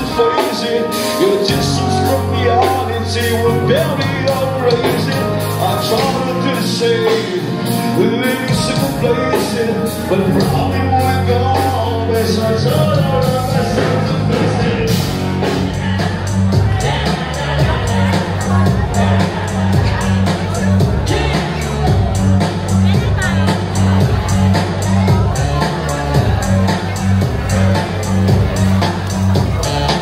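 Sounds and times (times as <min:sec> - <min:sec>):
bass line: 0:00.0 - 0:30.0
drums: 0:00.0 - 0:30.0
person singing: 0:00.0 - 0:30.0.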